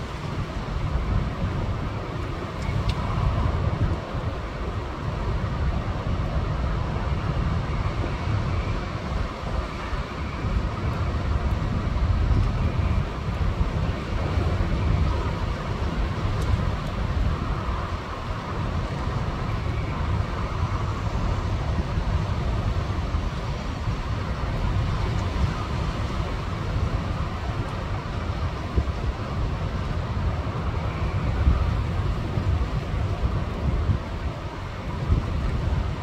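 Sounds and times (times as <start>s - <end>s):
strong wind on microphone: 0.0s - 36.0s.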